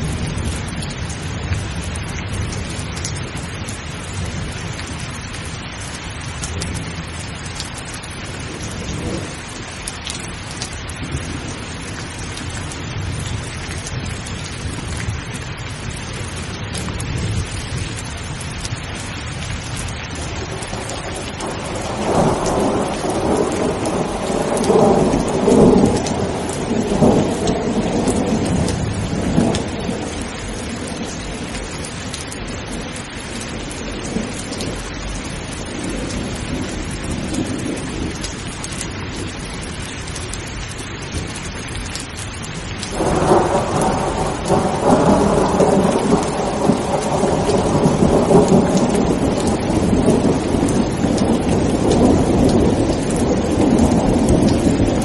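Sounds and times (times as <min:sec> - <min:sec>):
steady rain: 0:00.0 - 0:55.0
thunder rumbling: 0:00.0 - 0:55.0.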